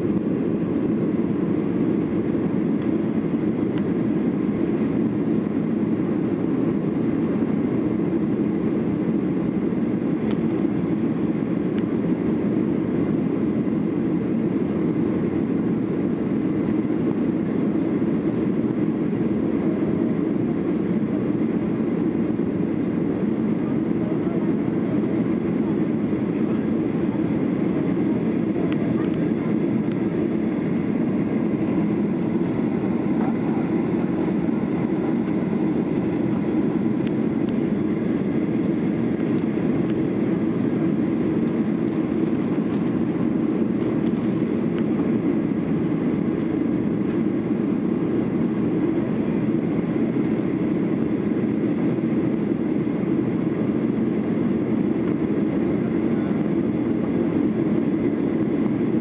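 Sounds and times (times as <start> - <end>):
aircraft cabin engine noise: 0.0 - 59.0.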